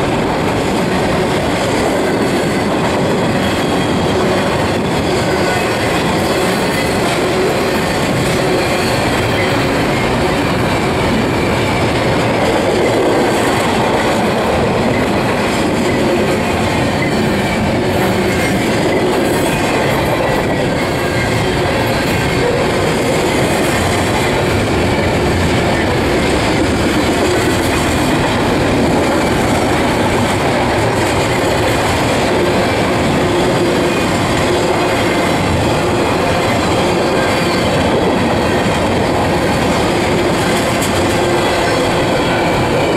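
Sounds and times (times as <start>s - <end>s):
steel train wheels on rails: 0.0s - 42.9s.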